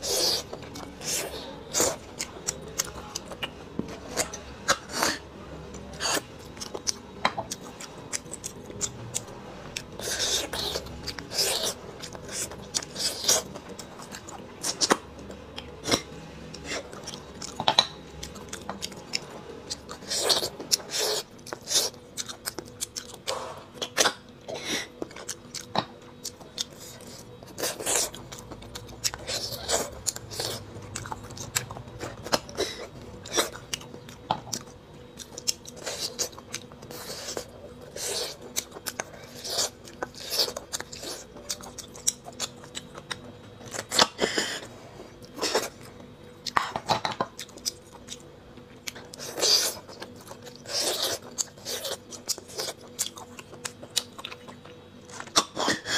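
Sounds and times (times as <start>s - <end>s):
person sucking and chewing bone: 0.0s - 5.2s, 5.9s - 15.0s, 18.2s - 55.9s.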